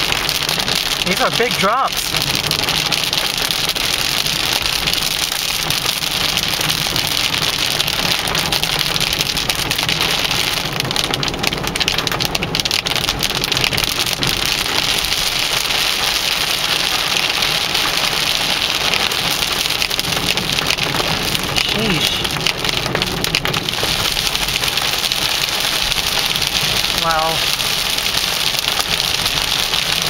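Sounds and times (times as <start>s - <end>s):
heavy rain drumming on car roof: 0.0s - 30.0s.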